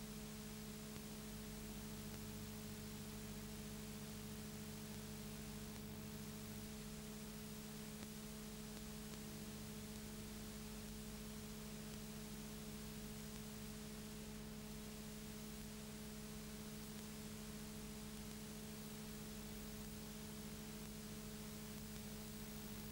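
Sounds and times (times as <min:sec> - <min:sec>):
electrical hum: 0:00.0 - 0:22.9.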